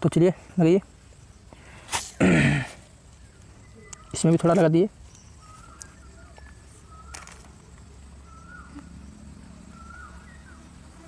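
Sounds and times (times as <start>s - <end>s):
faint bird chirps: 0.4s - 11.0s.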